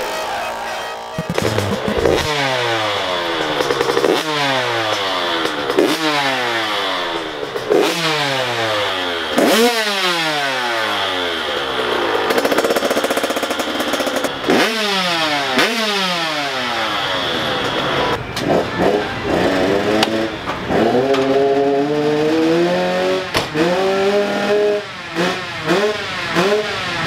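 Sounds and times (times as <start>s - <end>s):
dirt bike engine revving: 1.0s - 27.0s.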